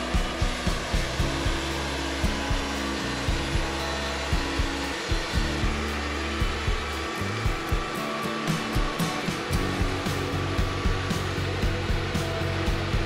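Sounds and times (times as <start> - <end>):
background music with beat: 0.0 - 13.0
band sawmill cutting log: 0.0 - 13.0.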